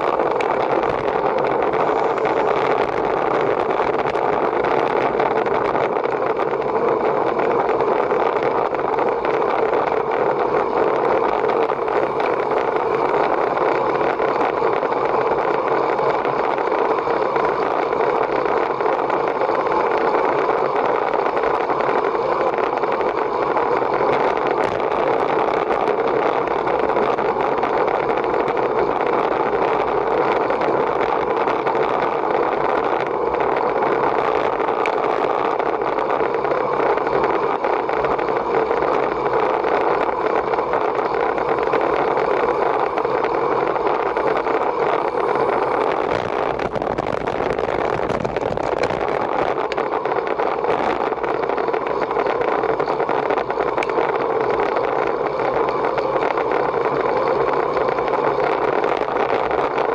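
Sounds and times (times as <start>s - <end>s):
road noise: 0.0s - 59.9s
wind rushing: 0.0s - 59.9s.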